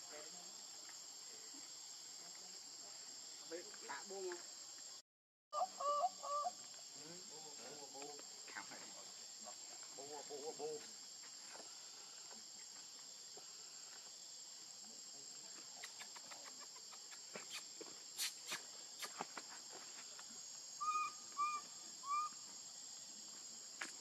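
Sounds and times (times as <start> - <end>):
high-pitched insect chorus: 0.0 - 5.0, 5.6 - 24.0.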